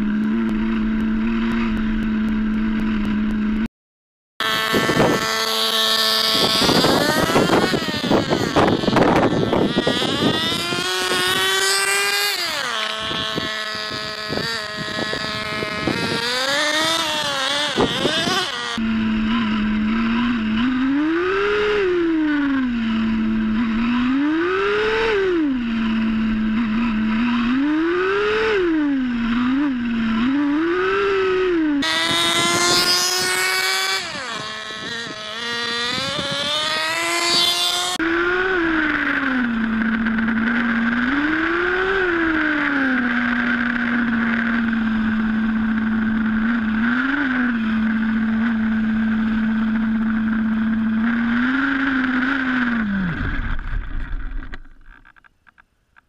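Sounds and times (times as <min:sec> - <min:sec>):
rc car engine revving: 0:04.4 - 0:55.2.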